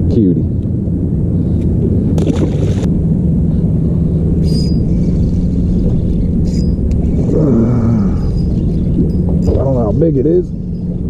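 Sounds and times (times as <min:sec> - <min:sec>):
low rumble of wind and water: 0:00.0 - 0:11.0
steady hum: 0:00.0 - 0:11.0.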